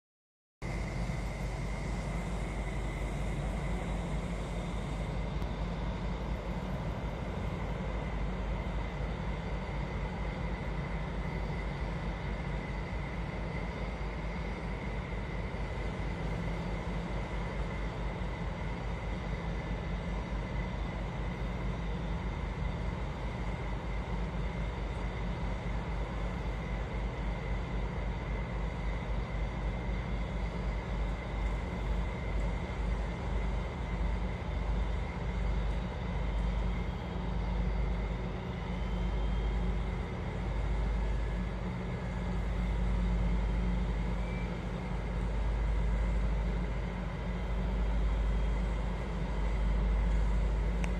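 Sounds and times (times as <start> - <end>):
diesel engine running under load: 0.6 - 50.9
faint steady whine: 0.6 - 50.9.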